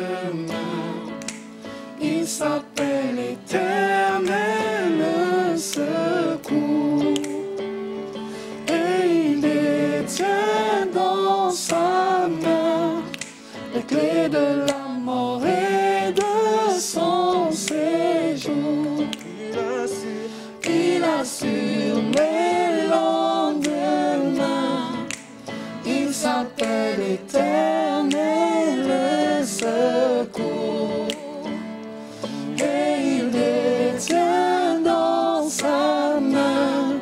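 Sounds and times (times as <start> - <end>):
person singing a hymn: 0.0 - 1.4, 2.0 - 7.6, 8.5 - 37.0
electric keyboard chords: 0.0 - 37.0.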